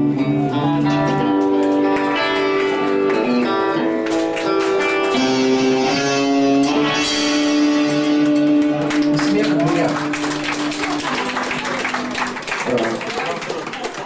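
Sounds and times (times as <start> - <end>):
rock band instrumental: 0.0 - 12.5.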